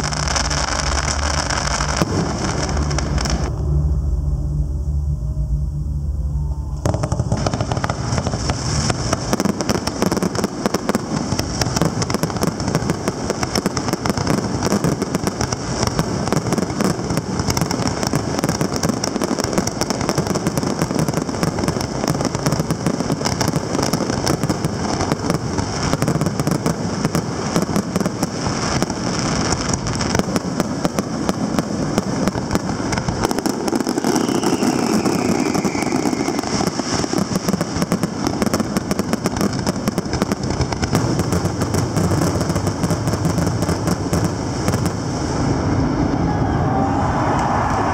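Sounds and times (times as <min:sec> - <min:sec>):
fireworks crackling: 0:00.0 - 0:03.6, 0:06.8 - 0:47.9
fireworks launching and bursting: 0:00.0 - 0:03.7, 0:06.8 - 0:47.9.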